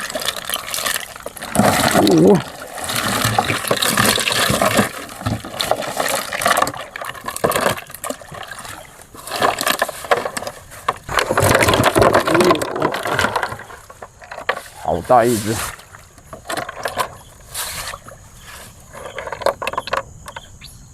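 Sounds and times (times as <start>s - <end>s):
water splashing and sloshing: 0.0s - 20.4s.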